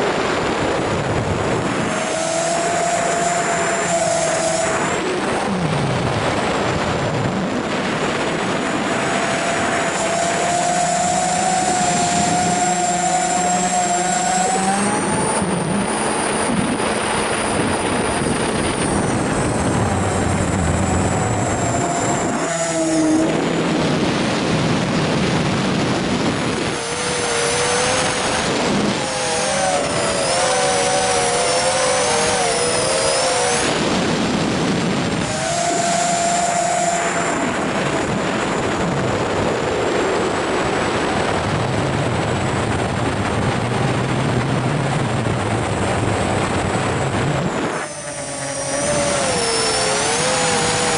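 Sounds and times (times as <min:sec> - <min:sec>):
drone motors whining: 0:00.0 - 0:39.7, 0:44.9 - 0:50.9
rushing air: 0:00.0 - 0:50.9.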